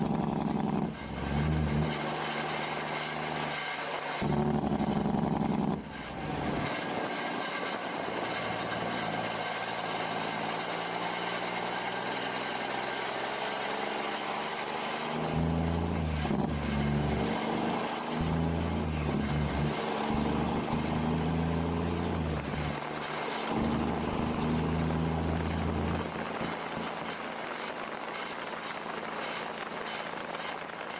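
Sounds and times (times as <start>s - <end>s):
diesel truck engine accelerating: 0.0s - 30.9s.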